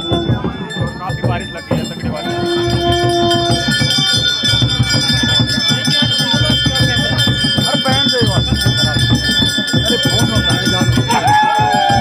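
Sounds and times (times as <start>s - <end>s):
music with rhythmic drum beat: 0.0s - 12.0s
sustained ringing tones: 0.0s - 12.0s.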